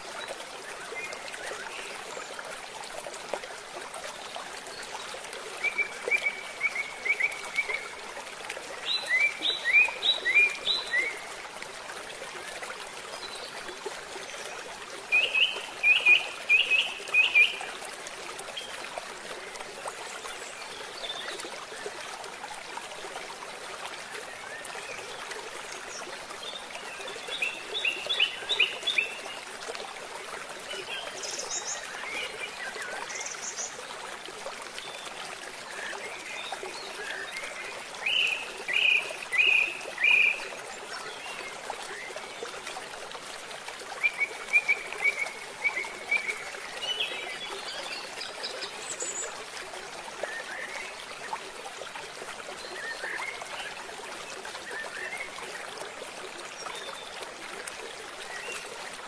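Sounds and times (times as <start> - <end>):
flowing stream water: 0.0 - 59.0.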